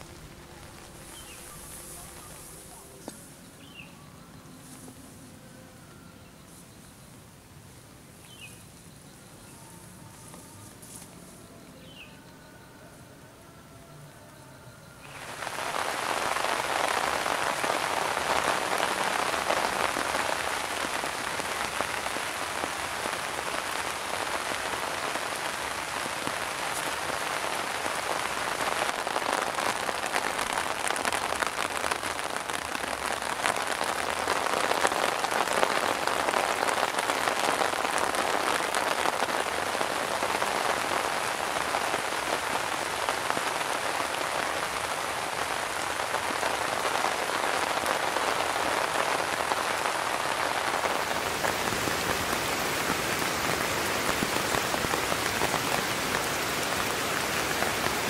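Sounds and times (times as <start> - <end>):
rain on grass and leaves: 0.0 - 12.4, 15.0 - 58.0.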